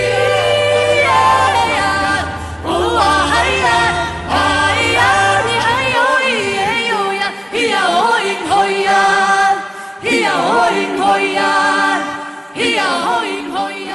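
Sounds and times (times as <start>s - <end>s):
voices singing held notes: 0.0s - 13.9s.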